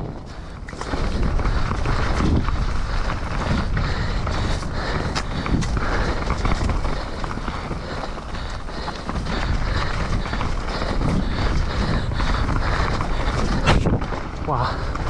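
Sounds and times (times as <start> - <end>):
bike knocking and rattling: 0.0 - 15.0
bike tyres rumbling on trail: 0.0 - 15.0
wind on microphone: 0.0 - 15.0.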